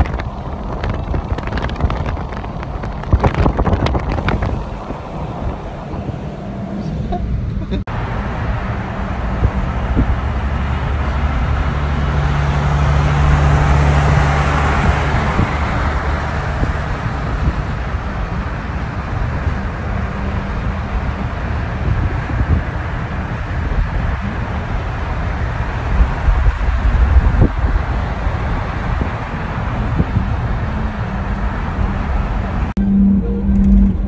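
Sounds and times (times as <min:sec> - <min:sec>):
car engine and tyre hum: 0:00.0 - 0:34.0
rushing air noise: 0:00.0 - 0:34.0.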